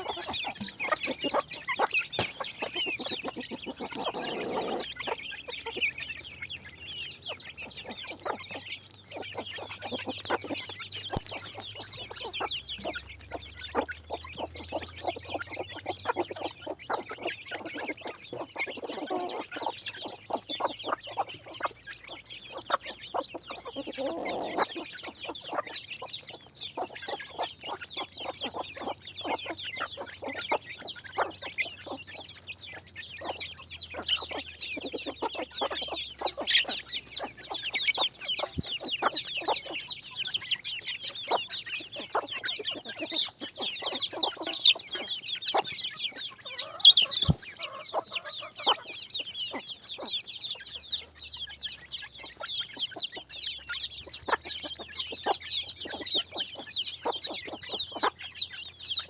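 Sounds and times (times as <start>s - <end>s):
chickens chirping: 0.0s - 59.0s
chickens clucking: 0.0s - 59.0s.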